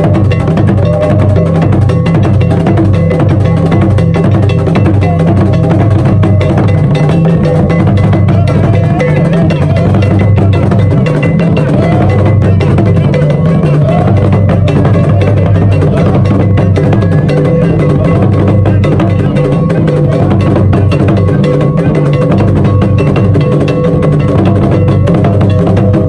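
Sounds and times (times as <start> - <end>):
drum ensemble playing: 0.0 - 26.0.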